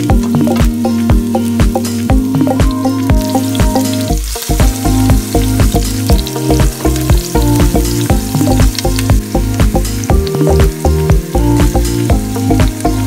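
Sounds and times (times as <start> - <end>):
background music with steady beat: 0.0 - 13.0
garlic and onions sizzling in oil: 0.0 - 13.0.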